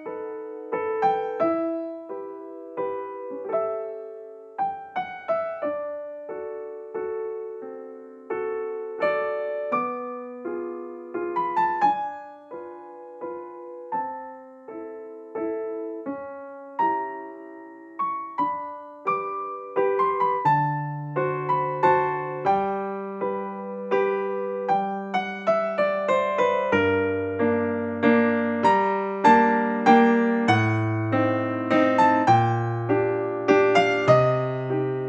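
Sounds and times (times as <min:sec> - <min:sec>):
slow solo piano melody: 0:00.0 - 0:35.0.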